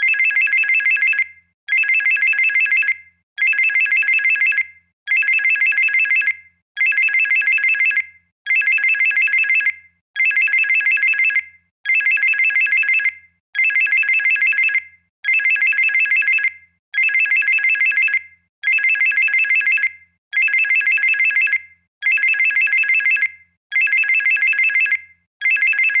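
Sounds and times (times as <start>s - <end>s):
phone ringtone trilling: 0.0s - 26.0s.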